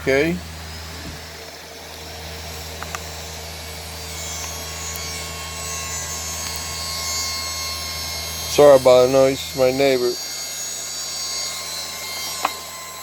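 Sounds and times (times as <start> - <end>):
motorized machine humming: 0.0 - 13.0.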